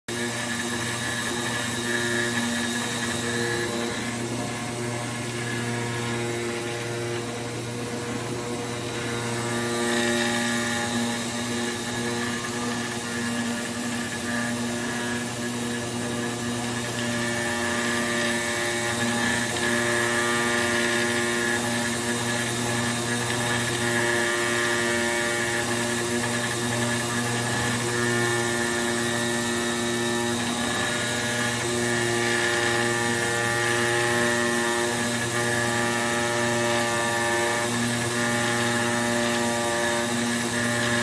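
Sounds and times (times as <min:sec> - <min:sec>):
router spindle whine: 0:00.1 - 0:41.0.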